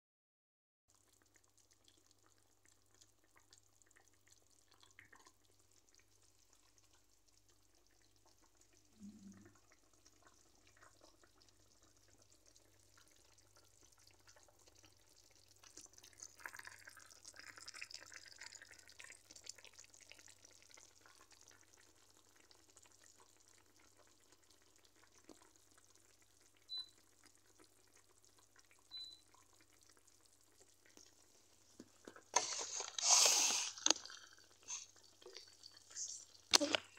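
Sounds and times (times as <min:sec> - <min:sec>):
fish simmering in a pan: 0:00.9 - 0:36.9.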